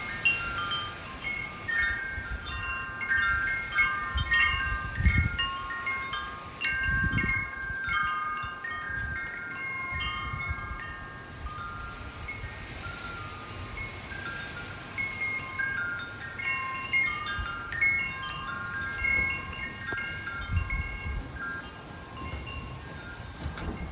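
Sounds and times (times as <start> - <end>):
wind buffeting microphone: 0.0 - 23.9
wind chimes ringing: 0.0 - 23.9.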